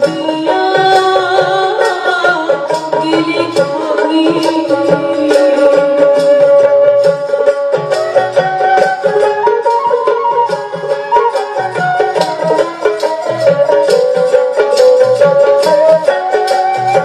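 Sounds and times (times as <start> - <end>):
held melody line: 0.0 - 17.0
plucked strings: 0.0 - 17.0
steady percussion beat: 0.0 - 17.0.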